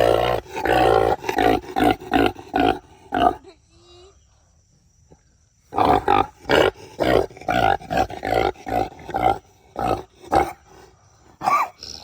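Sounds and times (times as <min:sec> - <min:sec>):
pig grunting: 0:00.0 - 0:03.5, 0:05.7 - 0:12.0.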